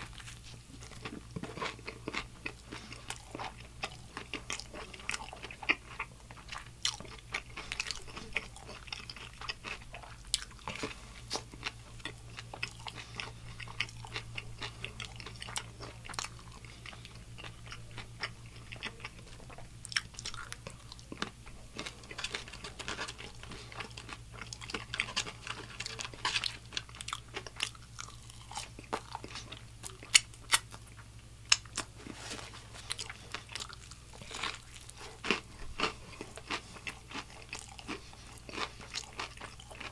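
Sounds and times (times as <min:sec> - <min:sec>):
crunchy chewing of fried chicken: 0:00.0 - 0:39.9
low steady hum: 0:00.0 - 0:39.9.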